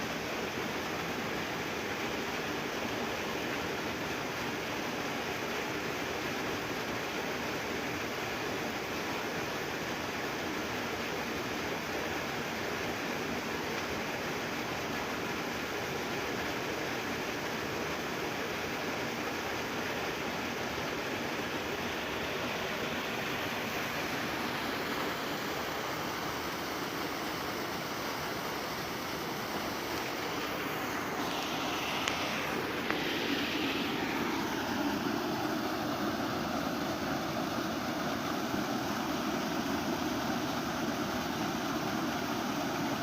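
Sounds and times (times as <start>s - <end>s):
water rushing: 0.0s - 43.0s.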